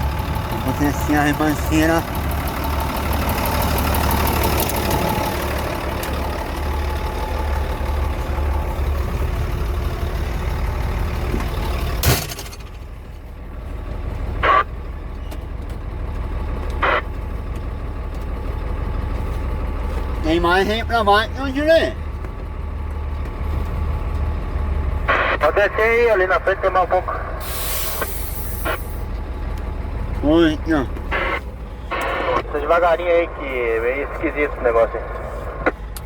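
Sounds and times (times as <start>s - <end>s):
truck engine running low: 0.0s - 36.0s.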